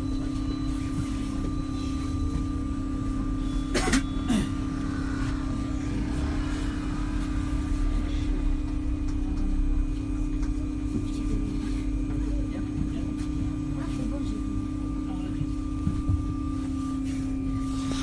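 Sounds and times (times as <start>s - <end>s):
city bus engine rumble: 0.0s - 15.9s.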